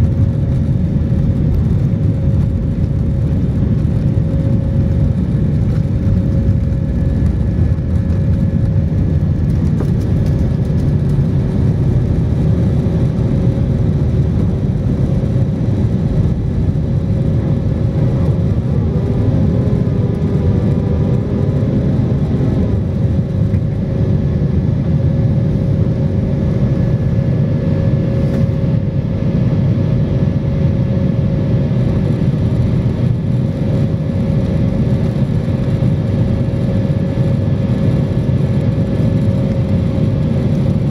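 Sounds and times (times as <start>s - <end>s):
jet engines roaring in cabin: 0.0s - 40.9s.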